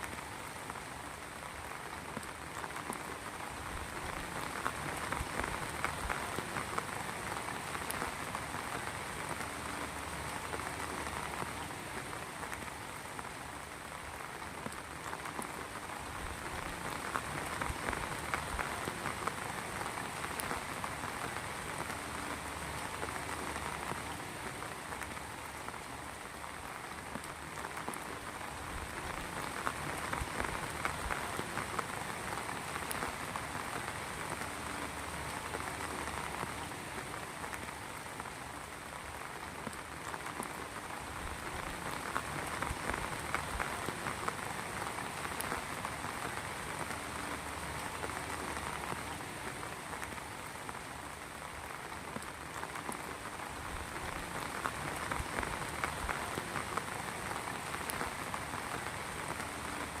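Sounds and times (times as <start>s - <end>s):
rain pattering: 0.0s - 60.0s.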